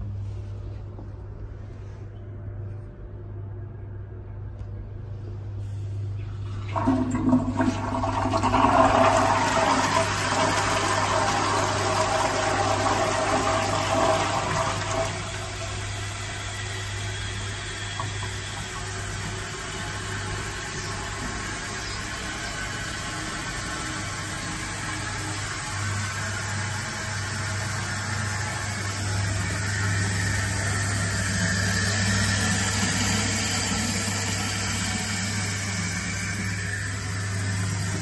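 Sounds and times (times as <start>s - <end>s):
low hum: 0.0s - 38.0s
toilet flush water rushing: 6.4s - 38.0s.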